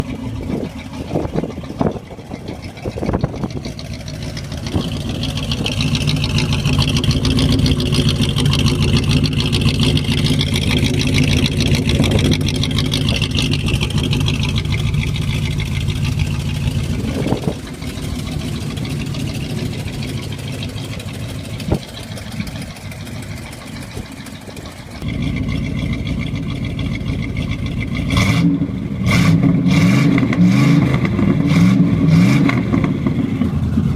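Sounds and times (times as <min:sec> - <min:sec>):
car engine with open exhaust: 0:00.0 - 0:33.9.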